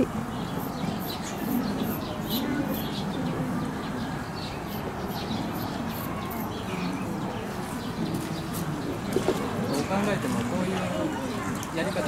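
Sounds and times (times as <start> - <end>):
pigeons cooing: 0.0 - 7.5, 8.1 - 11.6
small birds chirping: 0.0 - 12.0.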